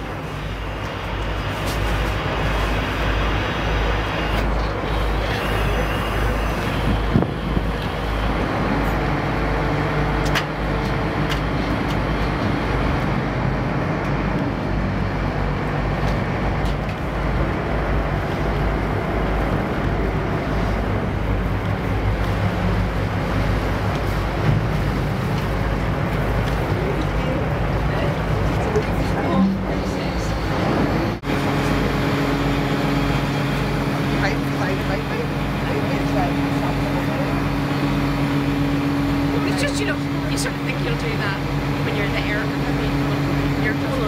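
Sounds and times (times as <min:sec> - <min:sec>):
ship engines low rumble: 0:00.0 - 0:44.0.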